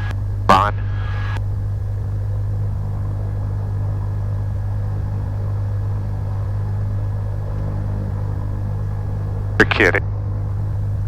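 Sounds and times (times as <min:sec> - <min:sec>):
aircraft engine idling: 0:00.0 - 0:11.0.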